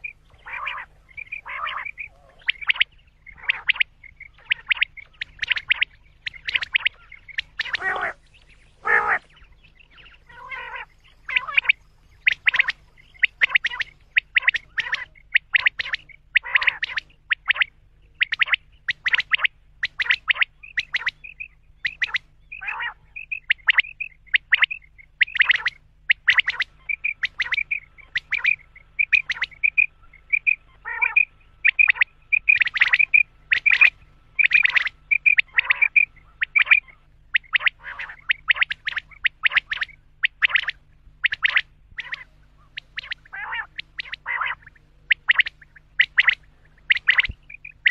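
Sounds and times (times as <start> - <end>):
faint low hum: 0.0 - 47.9
quail calling: 0.0 - 47.9.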